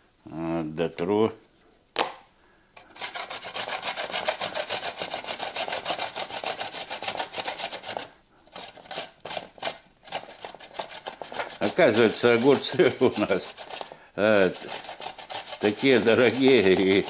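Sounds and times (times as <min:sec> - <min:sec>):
cucumber rasping on grater: 0:02.9 - 0:17.0.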